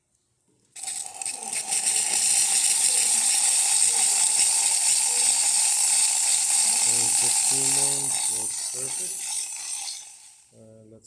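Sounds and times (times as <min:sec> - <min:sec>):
espresso machine steam wand hissing: 0:00.8 - 0:10.5.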